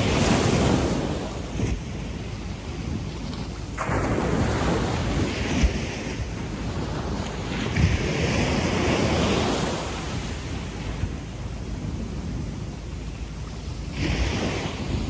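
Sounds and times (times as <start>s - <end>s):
wind thumps on microphone: 0.0s - 12.8s, 13.5s - 15.0s
small waves washing on sand: 0.0s - 15.0s.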